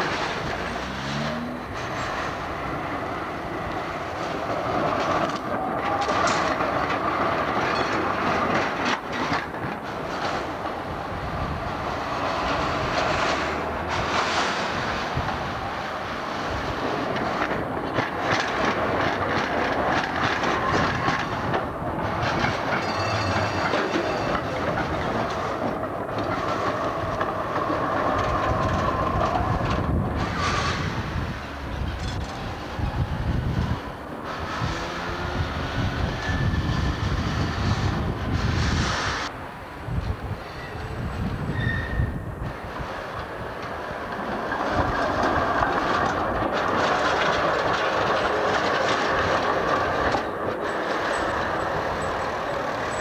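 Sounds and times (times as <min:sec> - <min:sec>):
steel wheels clattering over rails: 0:00.0 - 0:39.3, 0:40.4 - 0:53.0
trams running past: 0:00.0 - 0:53.0.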